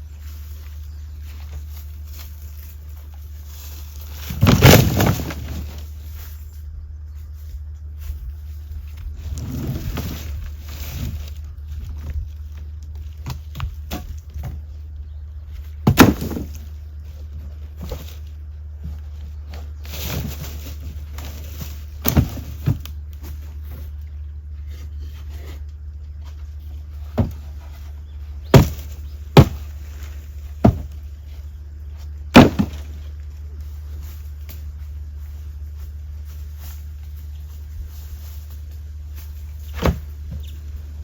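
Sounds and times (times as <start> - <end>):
low hum: 0.0 - 41.0.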